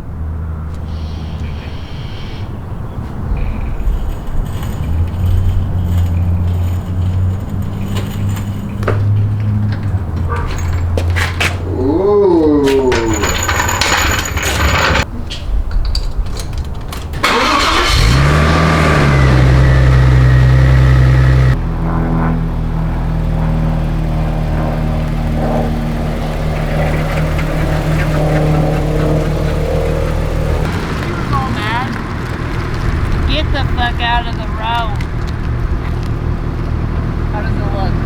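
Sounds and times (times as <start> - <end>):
car engine droning: 0.0 - 15.1, 16.5 - 38.0.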